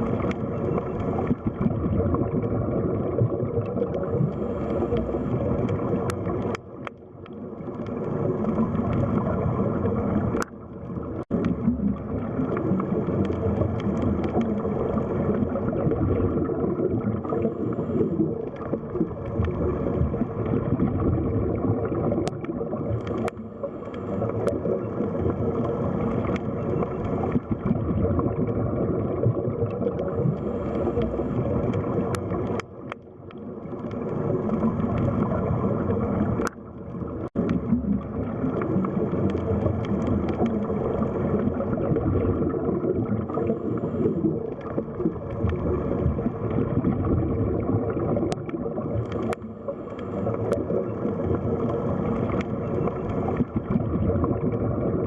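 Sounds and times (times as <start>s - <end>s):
faint steady hum: 0.0s - 55.0s
underwater water wash: 0.0s - 55.0s.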